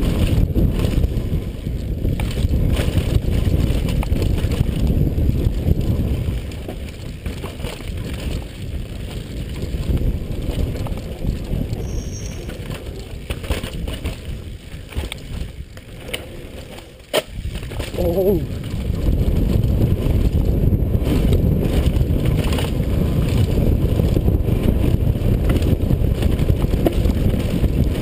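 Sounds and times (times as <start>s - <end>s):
bike rattling and clicking: 0.0s - 28.0s
tyres over dirt: 0.0s - 28.0s
wind rushing on microphone: 0.0s - 28.0s.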